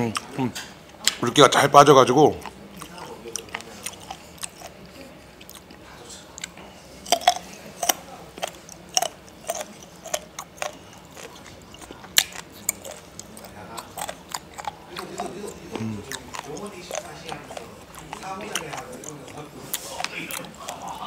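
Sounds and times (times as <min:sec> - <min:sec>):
person chewing with wet clicks: 0:00.0 - 0:21.0.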